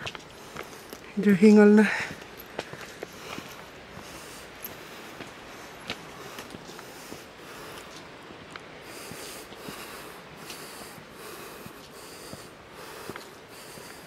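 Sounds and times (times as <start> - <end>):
footsteps on gravel: 0.0 - 14.0
person breathing hard: 1.8 - 8.1, 8.8 - 14.0.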